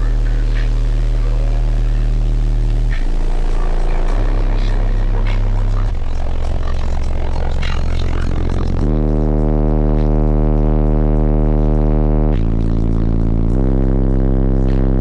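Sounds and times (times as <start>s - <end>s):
subwoofer deep bass tones: 0.0s - 15.0s.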